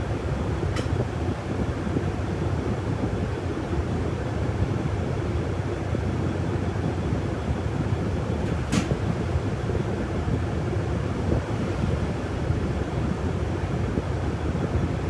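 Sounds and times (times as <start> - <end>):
bus engine rumble: 0.0 - 14.8.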